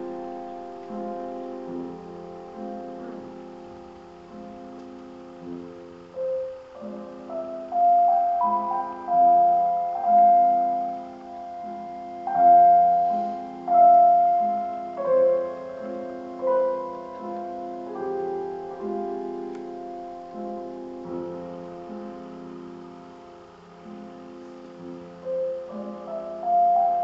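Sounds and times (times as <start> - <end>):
slow calm piano music: 0.0 - 27.0.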